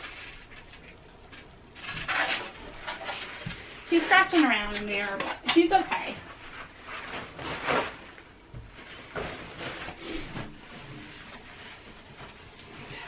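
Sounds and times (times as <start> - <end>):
sheet rustling and crinkling: 0.0 - 13.0.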